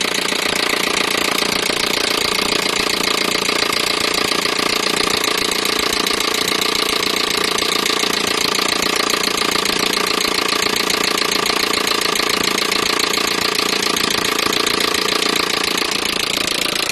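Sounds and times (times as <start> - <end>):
car engine running: 0.0 - 16.9
fast even ticking: 0.0 - 16.9.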